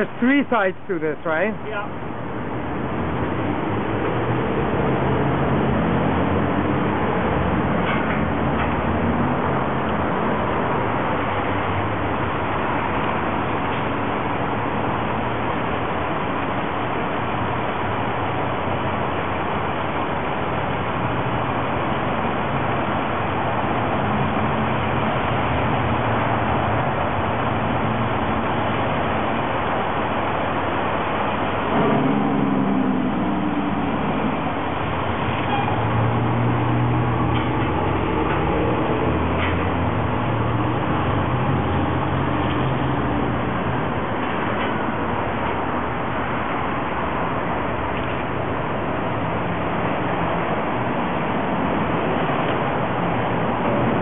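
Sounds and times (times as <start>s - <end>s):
city street traffic: 0.0s - 54.0s
passing vehicle engines: 0.0s - 54.0s.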